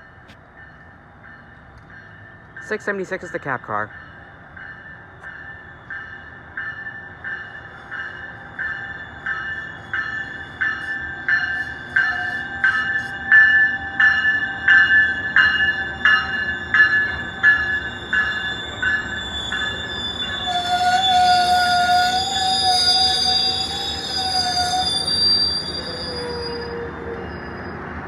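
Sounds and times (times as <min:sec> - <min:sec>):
train rolling noise: 0:00.0 - 0:28.0
train wheels squealing on rail: 0:04.2 - 0:28.0.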